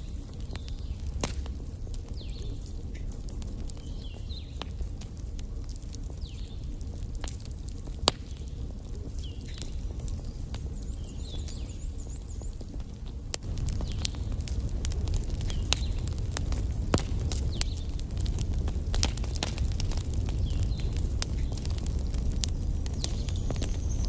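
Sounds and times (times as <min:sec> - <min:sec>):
fire crackling and popping: 0:00.0 - 0:24.0
wood fire rumbling: 0:00.0 - 0:24.0.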